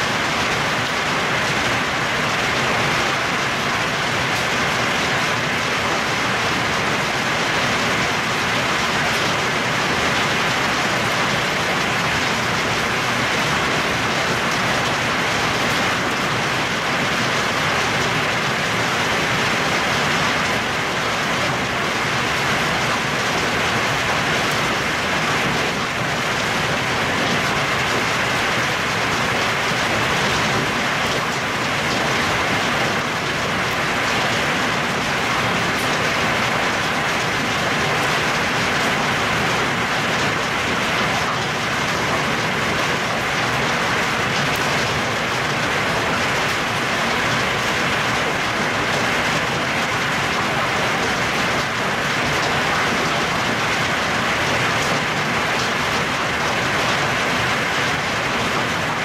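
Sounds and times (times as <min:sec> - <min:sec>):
heavy rain and hail on foliage: 0:00.0 - 0:59.0.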